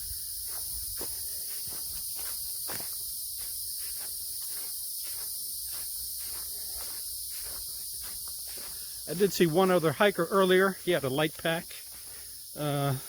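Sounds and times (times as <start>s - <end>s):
footsteps on woodland trail: 0.0s - 13.0s
high buzz of insects: 0.0s - 13.0s.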